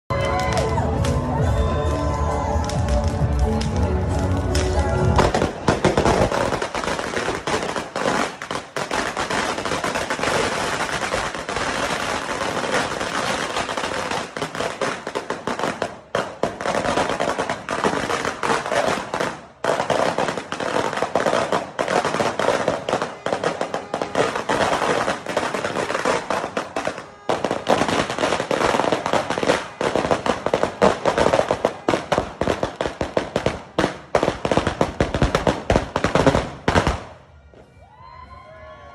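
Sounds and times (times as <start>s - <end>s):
firecrackers banging rapidly: 2.6s - 37.2s.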